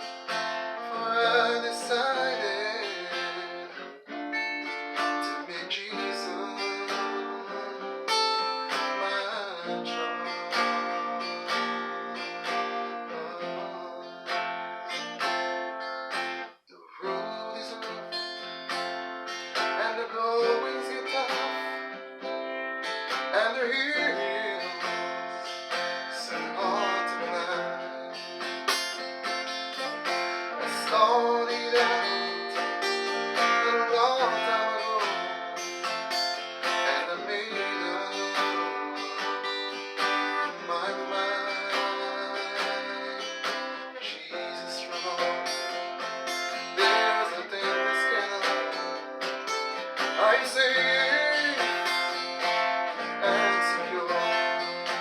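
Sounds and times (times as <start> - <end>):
acoustic guitar country tune: 0.0 - 55.0.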